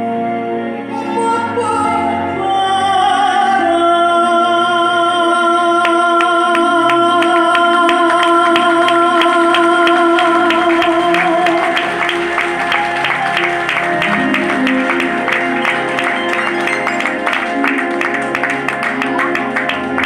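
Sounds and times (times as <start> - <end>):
backing music: 0.0 - 20.0.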